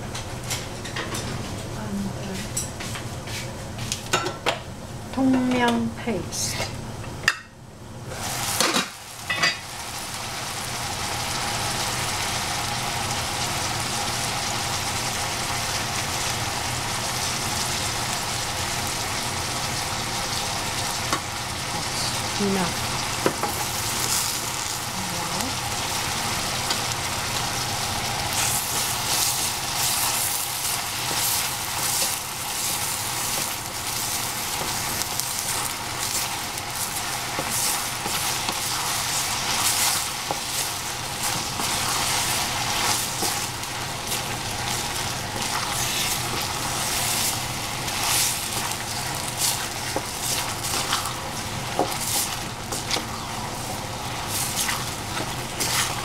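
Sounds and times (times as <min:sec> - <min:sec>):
vegetables sizzling in a pan: 0:08.1 - 0:56.0.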